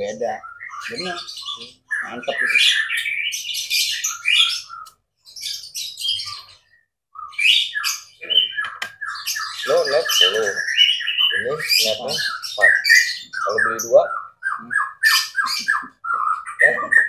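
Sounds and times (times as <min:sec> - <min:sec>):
bird singing chirps and trills: 0:00.0 - 0:17.0.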